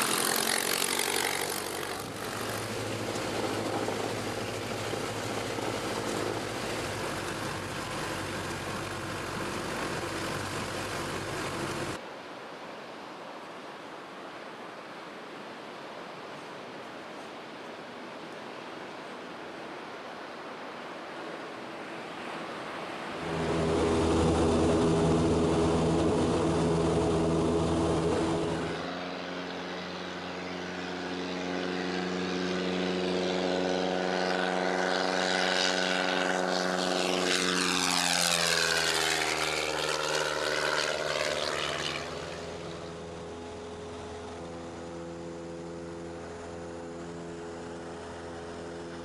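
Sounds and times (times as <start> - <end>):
propeller plane engine: 0.0 - 12.0, 21.6 - 49.0.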